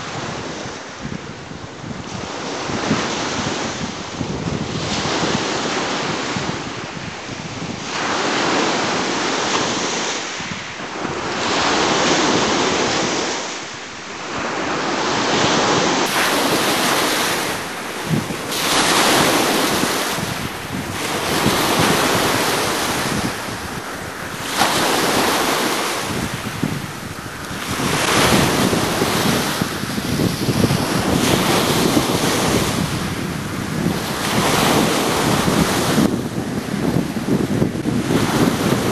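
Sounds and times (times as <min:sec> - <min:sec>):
rough surf breaking: 0:00.0 - 0:38.9
wind buffeting microphone: 0:00.0 - 0:38.9.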